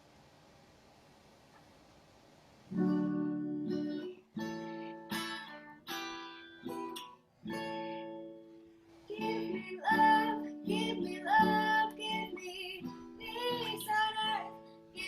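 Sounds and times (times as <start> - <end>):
guitar strumming chords: 2.7 - 15.0.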